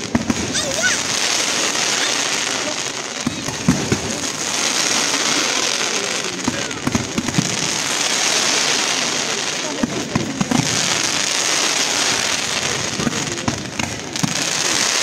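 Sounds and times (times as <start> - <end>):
fireworks crackling hiss: 0.0 - 15.0
fireworks sharp bangs: 0.0 - 15.0.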